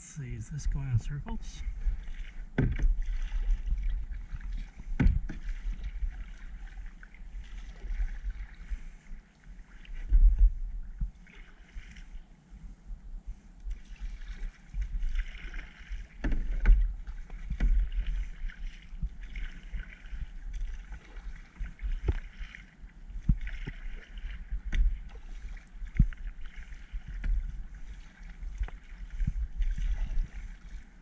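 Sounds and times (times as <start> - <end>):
paddle splashing water: 0.6 - 31.0.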